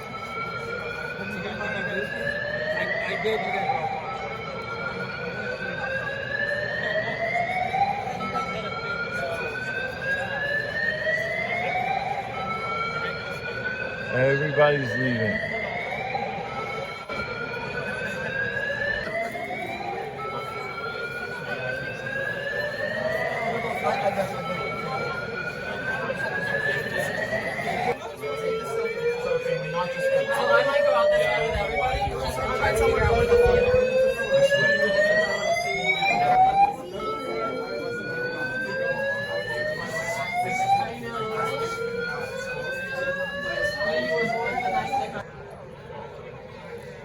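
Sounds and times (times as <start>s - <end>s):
fire alarm rising tones: 0.0s - 45.2s.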